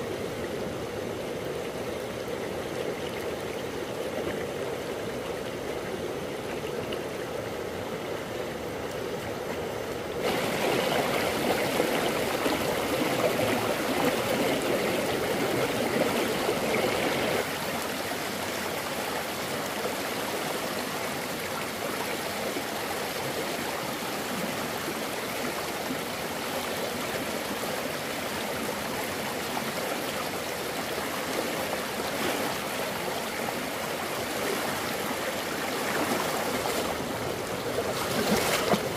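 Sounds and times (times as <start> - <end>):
stream of running water: 0.0 - 38.9.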